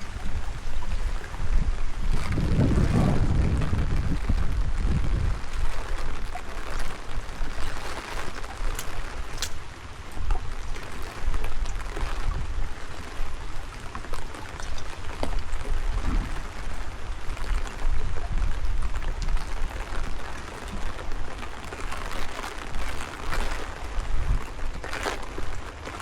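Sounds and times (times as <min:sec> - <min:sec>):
rain falling and splashing: 0:00.0 - 0:26.0
sharp raindrops striking close: 0:00.0 - 0:26.0
wind rumbling on microphone: 0:00.0 - 0:26.0.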